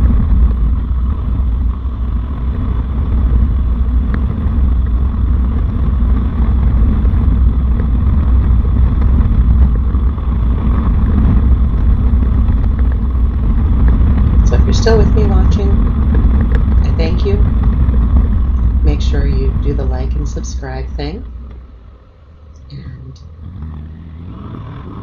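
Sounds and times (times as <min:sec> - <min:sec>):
low wind rumble: 0:00.0 - 0:25.0
motorcycle engine running: 0:00.0 - 0:25.0.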